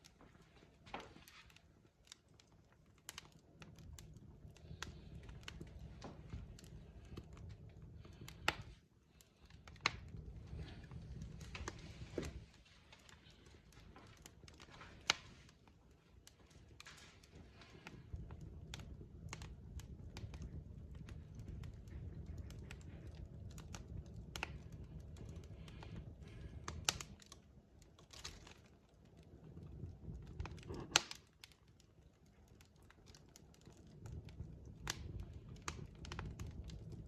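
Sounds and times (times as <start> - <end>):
burning logs popping and snapping: 0.0 - 37.0
low rumble of flames: 0.0 - 37.0.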